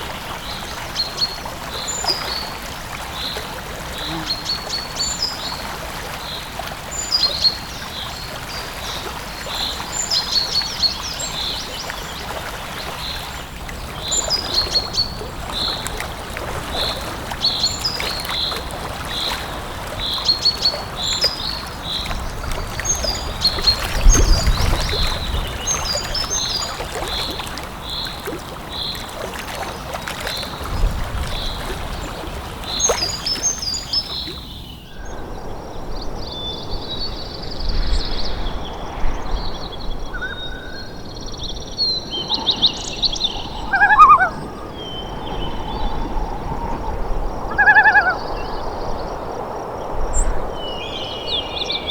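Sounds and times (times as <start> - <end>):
natural background hiss: 0.0 - 51.9.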